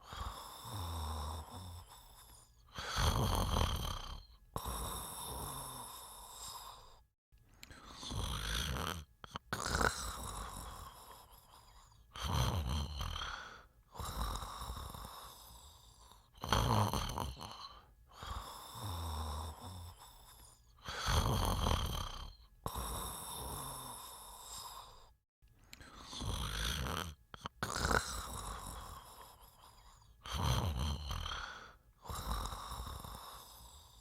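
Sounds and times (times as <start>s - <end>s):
person snoring: 0.0s - 7.0s, 7.6s - 34.0s.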